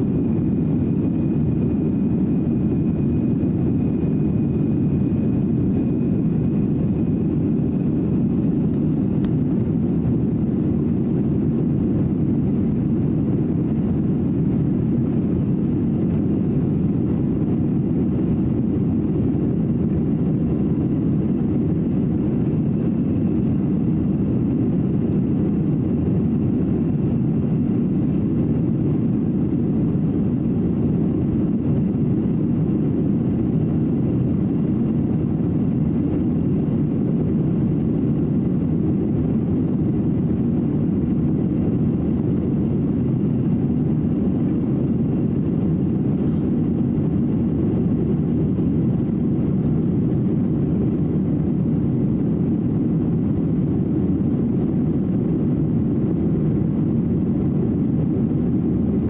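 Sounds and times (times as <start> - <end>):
jet engine cabin drone: 0.0 - 59.0.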